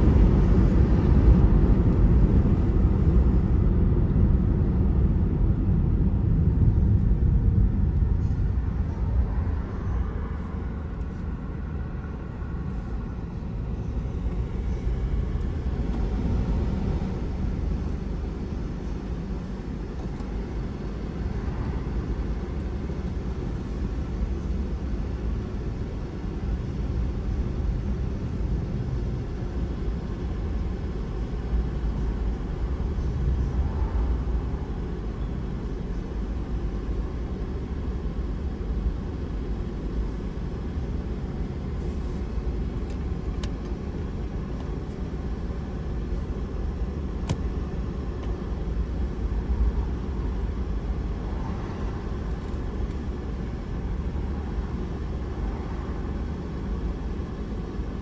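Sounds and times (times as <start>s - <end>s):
tyres and engine rumble: 0.0s - 58.0s.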